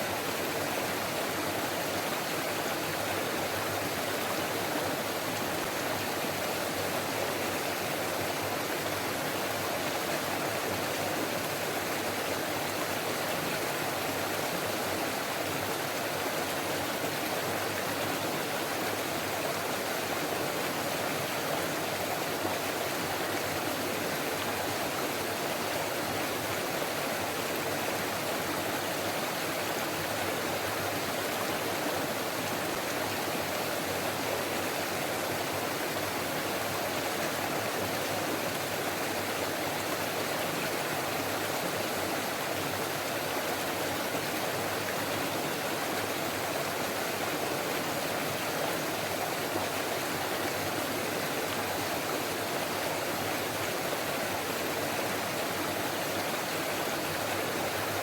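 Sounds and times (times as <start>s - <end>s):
stream babbling: 0.0s - 58.0s.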